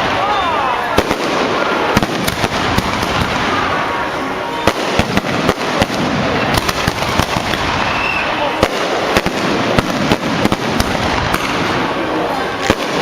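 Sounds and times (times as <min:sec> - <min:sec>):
firecrackers crackling: 0:00.0 - 0:13.0
sharp firecracker bangs: 0:00.0 - 0:13.0.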